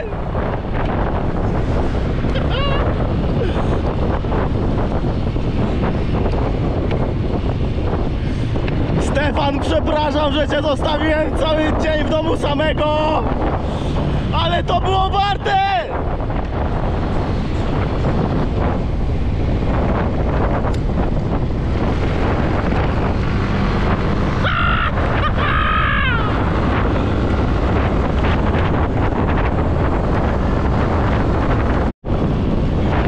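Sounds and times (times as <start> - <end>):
scooter engine and road noise: 0.0 - 33.0
wind buffeting microphone: 0.0 - 33.0.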